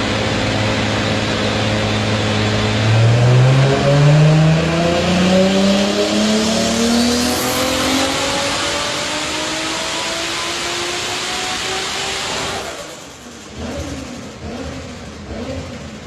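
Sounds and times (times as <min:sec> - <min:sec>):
car engine at full load: 0:00.0 - 0:16.0.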